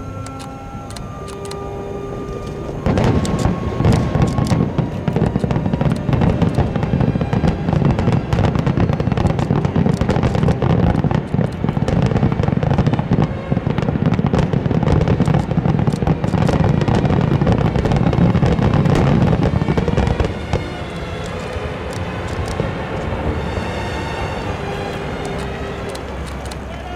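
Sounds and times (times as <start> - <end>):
low rumble: 0.0 - 26.5
fireworks bangs and crackling: 0.0 - 26.9.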